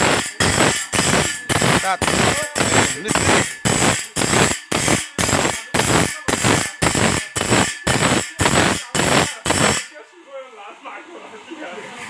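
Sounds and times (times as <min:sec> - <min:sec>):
grinder wheel rasping saw teeth: 0:00.0 - 0:10.0.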